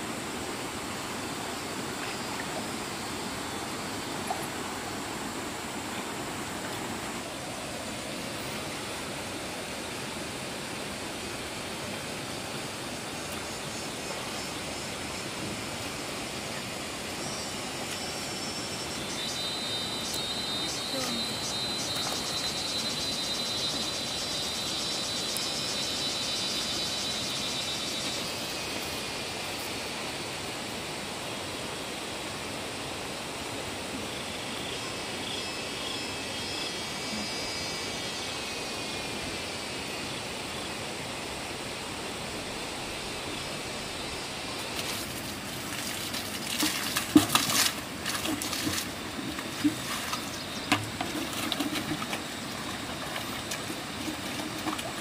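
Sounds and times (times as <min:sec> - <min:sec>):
water flowing: 0:00.0 - 0:32.9, 0:40.9 - 0:55.0.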